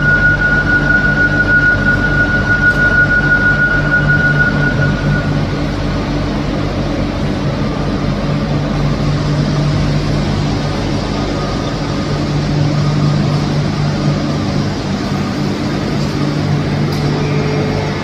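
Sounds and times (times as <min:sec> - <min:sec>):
high whine: 0:00.0 - 0:18.0
train equipment low hum: 0:00.0 - 0:18.0.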